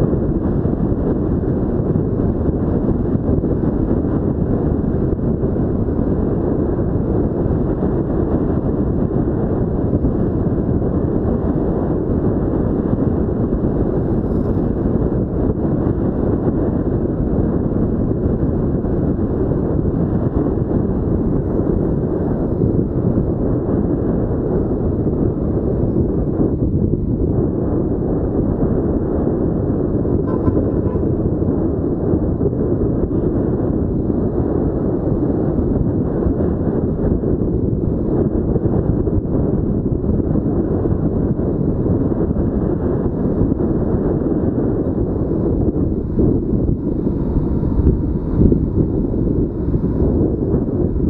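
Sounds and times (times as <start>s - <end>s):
road noise: 0.0s - 51.0s
wind buffeting microphone: 0.0s - 51.0s.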